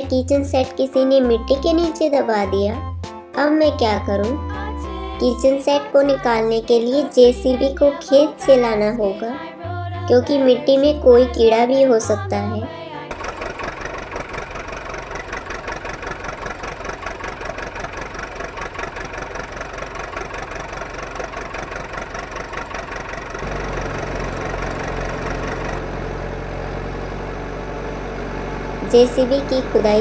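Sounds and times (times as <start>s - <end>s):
diesel engine chugging: 0.0s - 3.0s, 3.7s - 9.2s, 10.1s - 30.0s.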